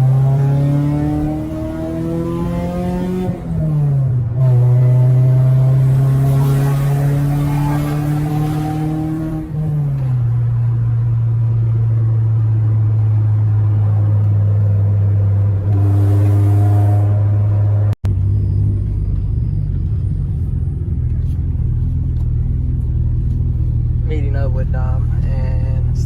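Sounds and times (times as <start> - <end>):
car engine droning inside car: 0.0 - 26.0.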